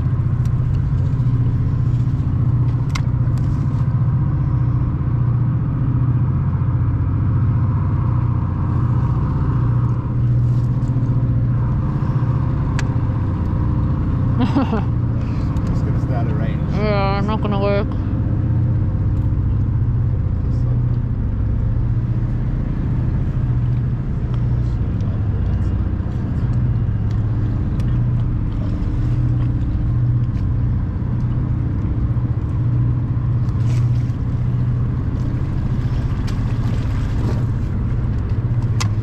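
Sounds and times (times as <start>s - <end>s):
outboard motor running: 0.0s - 39.0s.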